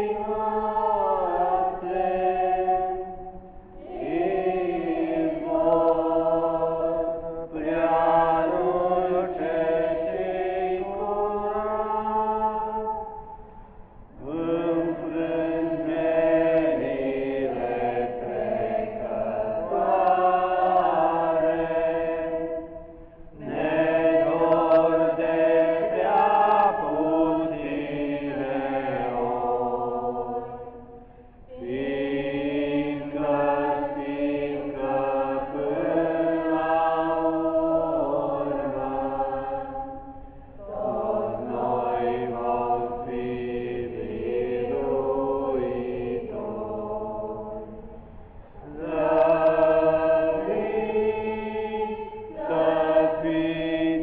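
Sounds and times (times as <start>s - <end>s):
women and girls singing a hymn: 0.0s - 54.0s.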